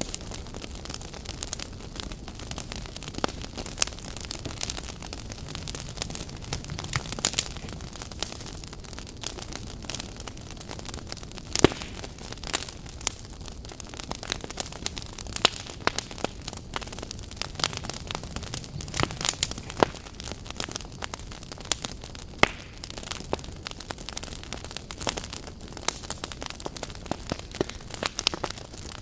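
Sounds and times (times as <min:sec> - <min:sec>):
firewood crackling and popping: 0:00.0 - 0:29.0
low rush of flame: 0:00.0 - 0:29.0.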